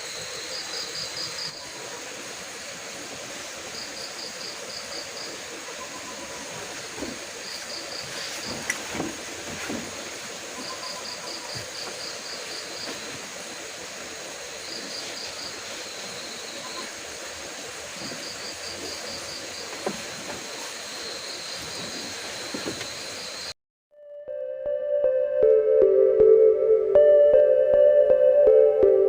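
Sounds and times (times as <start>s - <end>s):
insects chirping: 0.0s - 23.6s
rain hiss: 0.0s - 23.6s.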